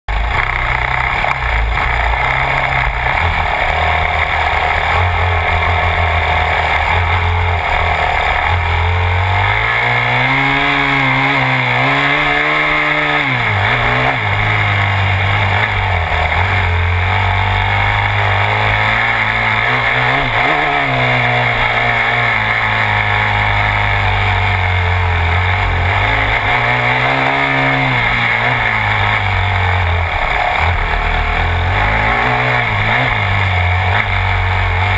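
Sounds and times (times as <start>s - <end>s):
constant rushing noise: 0.1s - 34.9s
dirt bike engine revving: 0.1s - 34.9s.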